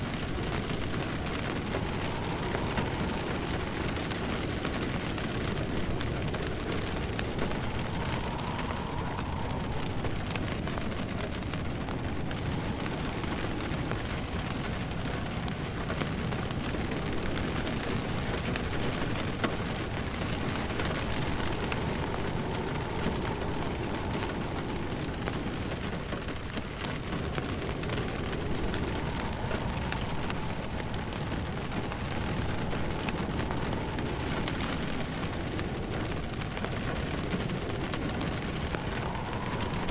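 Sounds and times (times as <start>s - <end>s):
rain pattering: 0.0s - 39.9s
wood fire crackling: 0.0s - 39.9s.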